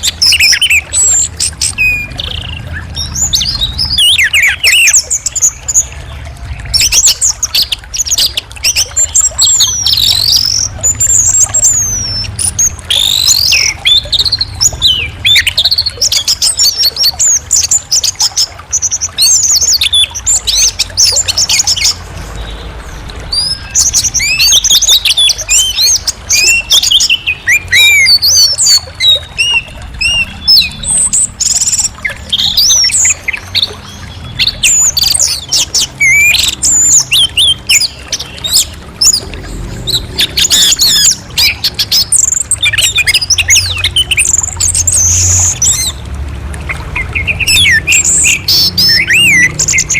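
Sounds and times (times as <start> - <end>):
thrush singing whistled notes: 0.0 - 46.0, 46.7 - 49.9.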